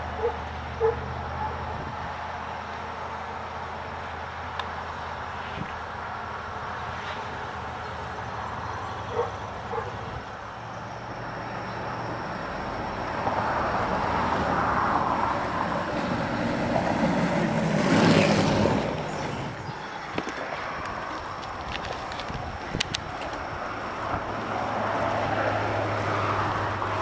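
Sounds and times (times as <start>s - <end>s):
vehicle passing by: 0.0s - 27.0s.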